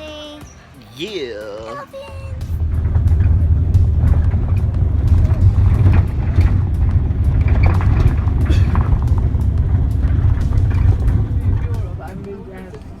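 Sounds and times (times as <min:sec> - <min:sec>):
road vehicle rumble from inside: 0:01.7 - 0:13.0.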